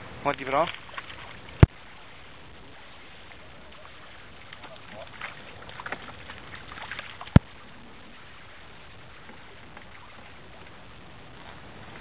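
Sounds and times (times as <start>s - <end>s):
hiss of wind and water: 0.0s - 12.0s
fish splashing at water surface: 0.4s - 10.7s.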